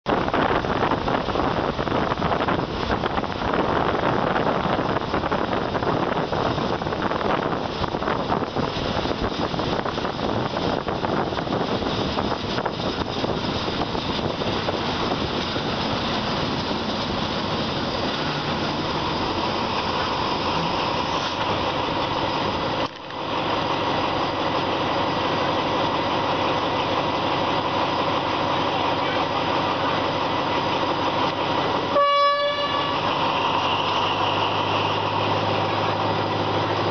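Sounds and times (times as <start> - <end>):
train engine and rolling noise: 0.1 - 36.9.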